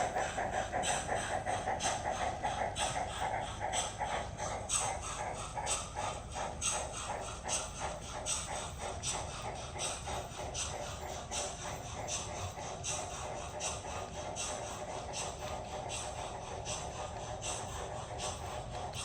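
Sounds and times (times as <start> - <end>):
model steam locomotive chuffs: 0.0 - 19.0.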